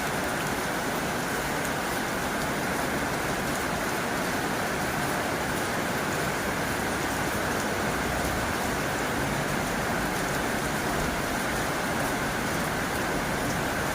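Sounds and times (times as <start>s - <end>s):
heavy rain on a tin roof: 0.0s - 13.9s.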